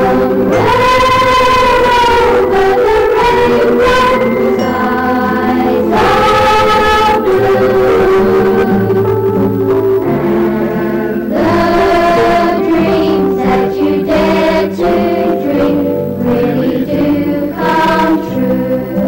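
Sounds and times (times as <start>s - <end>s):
choir singing held notes: 0.0s - 19.0s.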